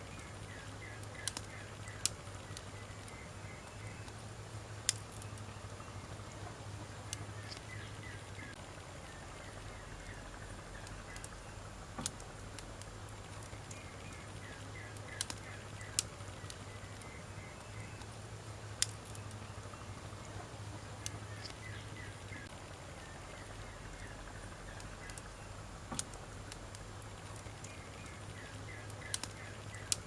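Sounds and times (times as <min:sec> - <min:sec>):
bird chirping: 0:00.0 - 0:11.7, 0:13.4 - 0:18.2, 0:18.8 - 0:25.7, 0:27.3 - 0:30.0
campfire crackling: 0:00.0 - 0:30.0
low steady hum: 0:00.0 - 0:30.0.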